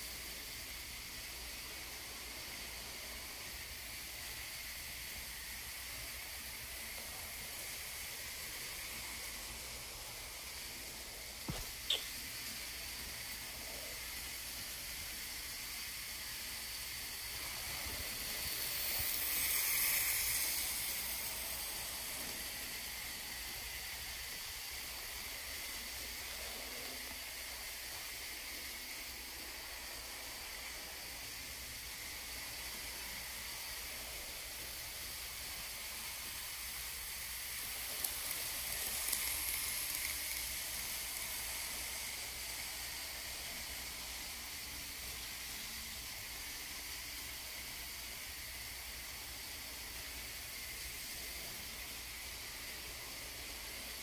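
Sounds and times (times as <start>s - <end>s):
model train wheels hissing: 0.0s - 54.0s.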